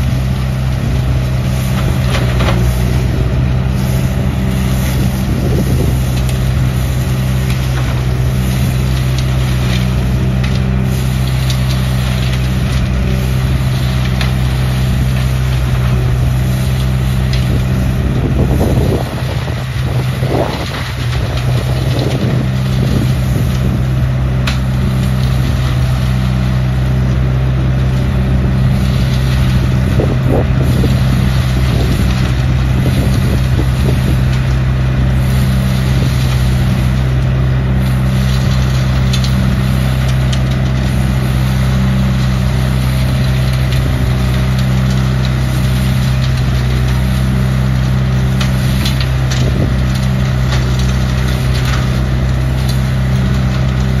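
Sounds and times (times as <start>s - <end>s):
dry leaves ticking in hose: 0.0s - 54.0s
leaf vacuum engine droning: 0.0s - 54.0s.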